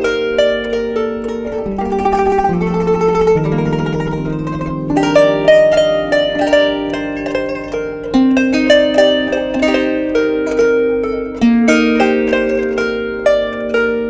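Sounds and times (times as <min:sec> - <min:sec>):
plucked zither melody: 0:00.0 - 0:14.0.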